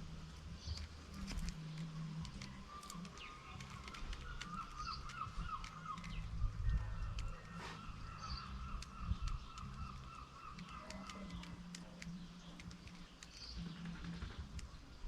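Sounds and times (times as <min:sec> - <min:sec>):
birds chirping: 0:00.0 - 0:15.0
sharp clicks and taps: 0:00.6 - 0:14.9.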